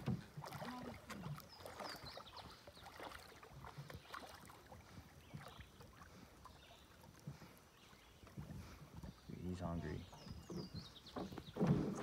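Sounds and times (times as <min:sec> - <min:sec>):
shallow river water splashing: 0:00.0 - 0:12.0.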